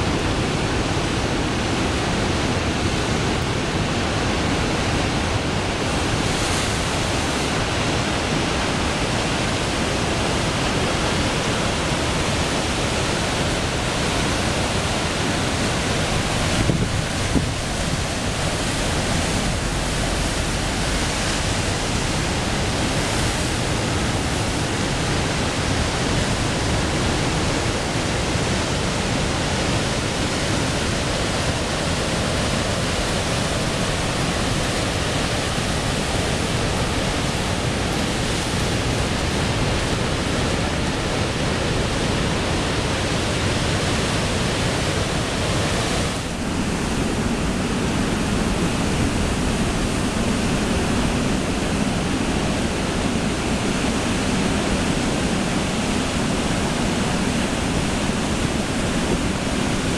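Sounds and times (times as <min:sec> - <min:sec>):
ocean surf crashing on rocks: 0:00.0 - 0:59.9.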